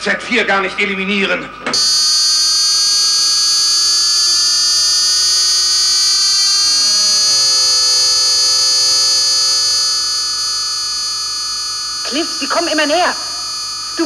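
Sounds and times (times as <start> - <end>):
high buzzing electronic drone: 1.7 - 14.0.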